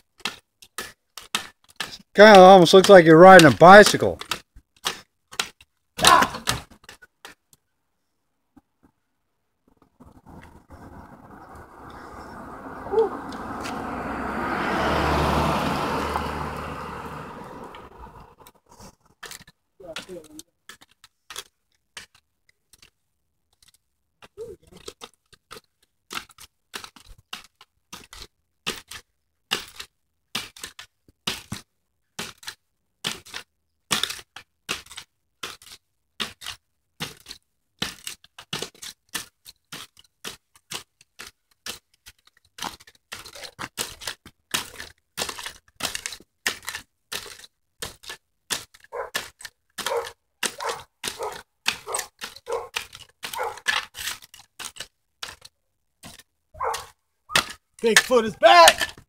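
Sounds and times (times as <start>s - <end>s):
jumping stilts clacking on gravel: 0.0s - 7.6s, 15.0s - 59.0s.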